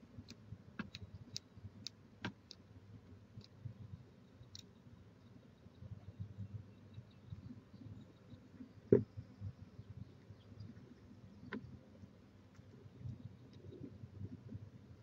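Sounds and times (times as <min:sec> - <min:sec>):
faint clicks and ticks: 0:00.1 - 0:15.0.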